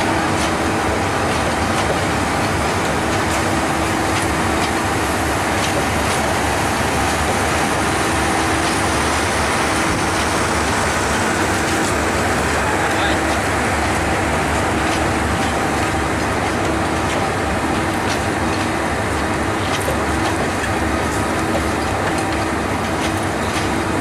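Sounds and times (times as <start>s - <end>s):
train coaches rumbling past: 0.0s - 24.0s.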